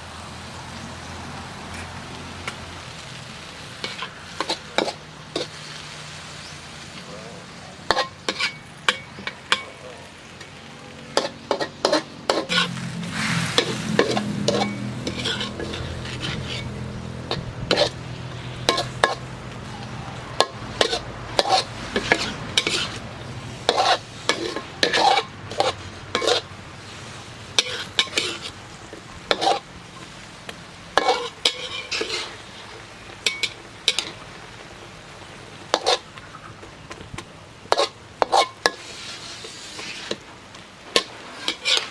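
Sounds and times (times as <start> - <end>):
food sizzling: 0.0 - 41.9
utensil scraping frying pan: 3.7 - 6.2, 7.8 - 34.5, 35.6 - 41.9.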